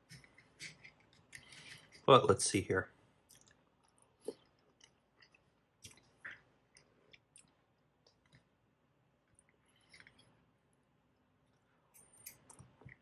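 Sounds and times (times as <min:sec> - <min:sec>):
quiet chewing: 0:00.0 - 0:02.1, 0:03.2 - 0:13.0.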